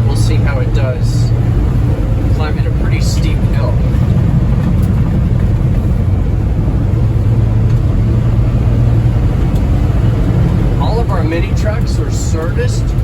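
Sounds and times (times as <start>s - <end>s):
small truck engine droning: 0.0s - 13.0s.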